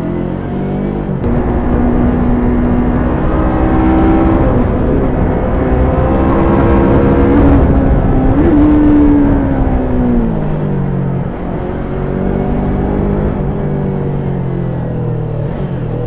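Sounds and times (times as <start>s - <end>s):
motorcycle engine and exhaust: 0.0s - 16.0s
low wind rumble: 1.1s - 16.0s.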